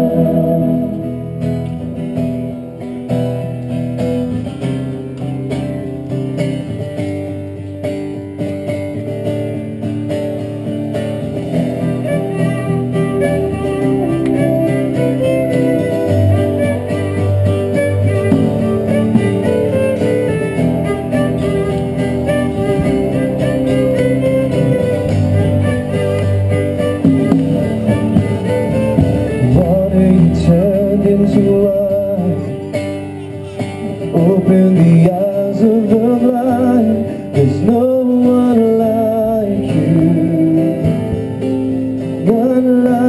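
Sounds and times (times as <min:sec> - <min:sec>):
live band playing instrumental: 0:00.0 - 0:42.9
acoustic guitar: 0:00.0 - 0:43.0.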